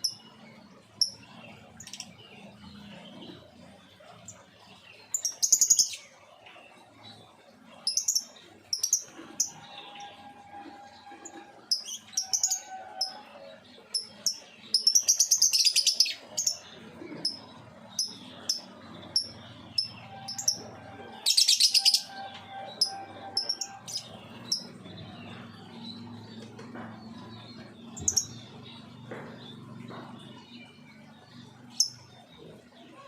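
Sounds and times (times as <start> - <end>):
lovebirds chirping: 0.0 - 33.0
rapid chattering bird calls: 0.0 - 33.0.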